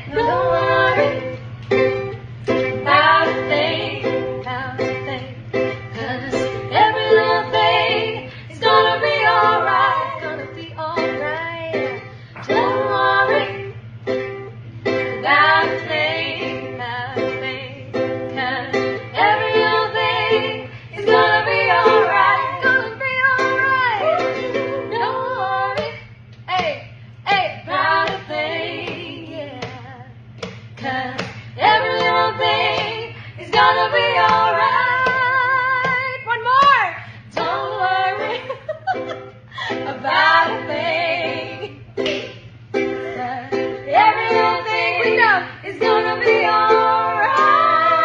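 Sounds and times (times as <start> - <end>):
women singing: 0.0 - 13.8, 14.9 - 48.0
plucked strings: 0.0 - 48.0
steady low hum: 0.0 - 48.0.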